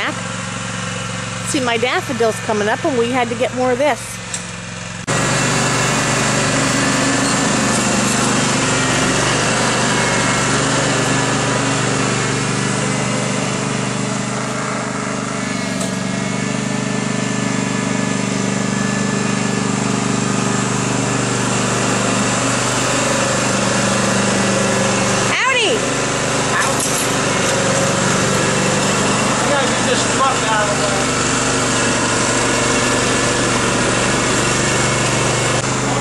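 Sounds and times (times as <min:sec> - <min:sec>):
garden tractor engine running: 0:00.0 - 0:36.0
plow blade pushing snow: 0:00.0 - 0:36.0.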